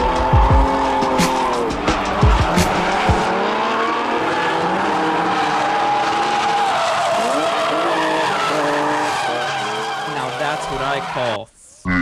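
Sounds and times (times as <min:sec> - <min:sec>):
car engines revving hard: 0:00.0 - 0:11.4
tyres squealing: 0:00.0 - 0:11.4.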